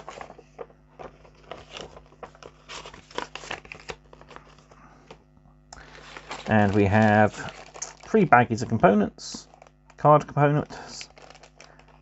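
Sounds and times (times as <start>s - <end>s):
paper rustling and crinkling: 0.0s - 5.2s, 5.8s - 9.8s, 10.6s - 12.0s.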